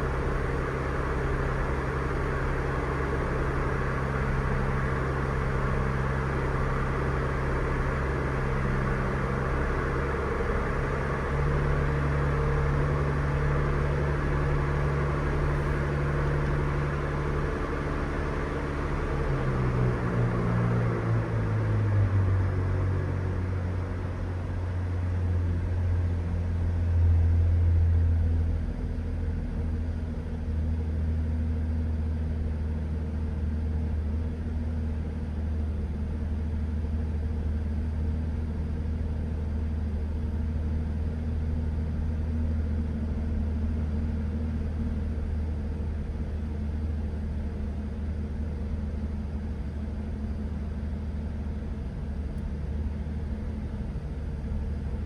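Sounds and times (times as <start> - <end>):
car engine idling: 0.0 - 31.0, 41.8 - 55.0.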